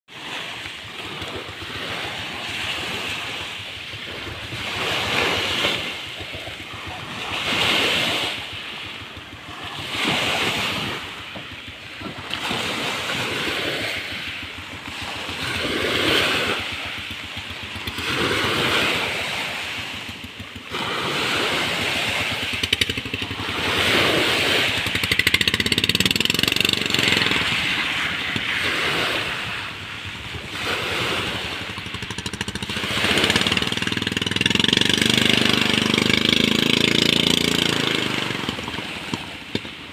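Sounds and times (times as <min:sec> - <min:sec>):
lake waves washing in: 0:00.1 - 0:39.9.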